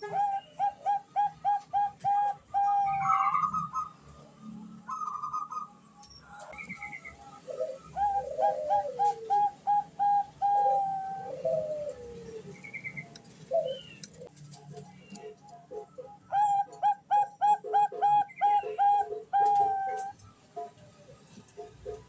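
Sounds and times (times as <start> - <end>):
doves cooing: 0.0 - 5.7, 6.3 - 22.0.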